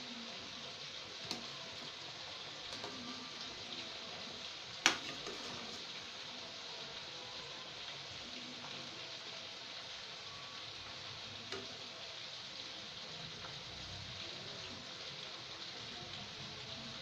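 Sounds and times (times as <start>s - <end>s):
cooking hiss on stove: 0.0s - 17.0s.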